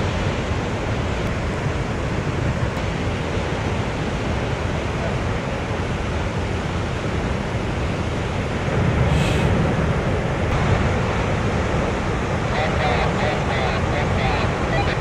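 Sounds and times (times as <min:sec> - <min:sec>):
heavy ocean surf roaring: 0:00.0 - 0:15.0
wind rumbling on microphone: 0:00.0 - 0:15.0.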